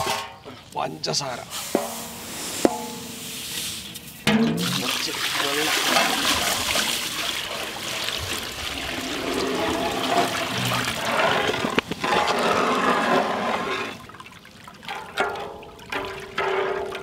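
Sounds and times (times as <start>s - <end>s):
water splashing in metal pot: 1.7s - 17.0s.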